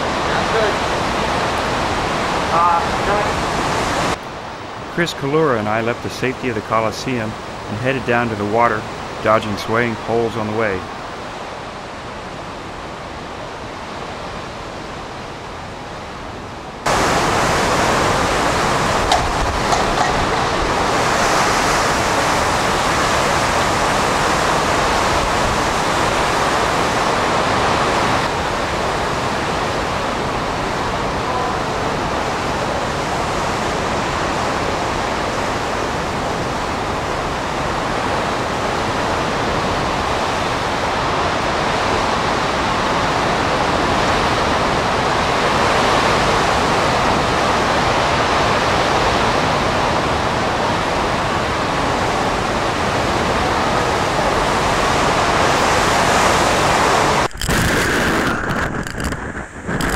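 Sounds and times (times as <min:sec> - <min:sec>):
driving rain: 0:00.0 - 0:59.9
waves breaking: 0:00.0 - 0:59.9
strong wind on microphone: 0:10.8 - 0:59.9.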